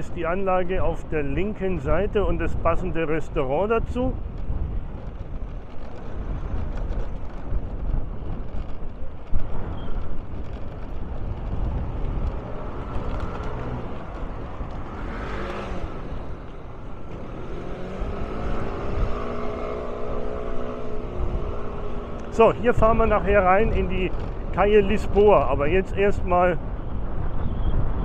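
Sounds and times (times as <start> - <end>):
vehicle road and engine noise: 0.0 - 28.0.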